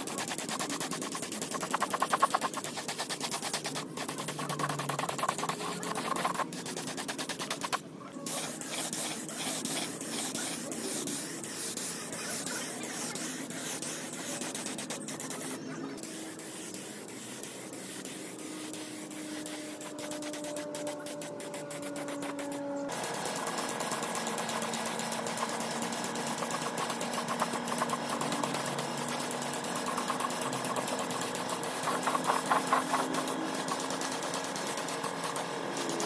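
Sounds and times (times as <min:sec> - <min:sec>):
spray gun hissing: 0:00.0 - 0:36.0.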